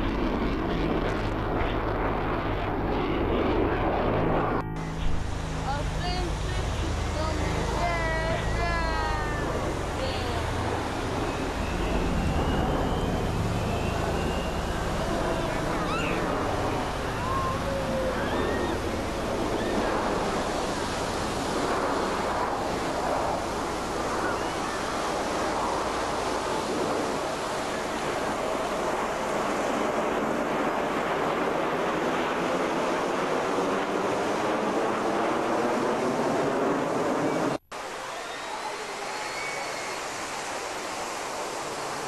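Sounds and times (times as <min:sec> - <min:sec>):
jet engines flying overhead: 0:00.0 - 0:42.0.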